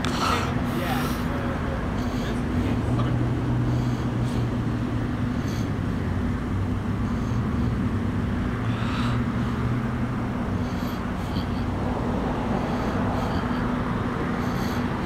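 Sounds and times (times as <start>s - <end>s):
faint distant sounds: 0.0s - 15.0s
low mechanical hum: 0.0s - 15.0s.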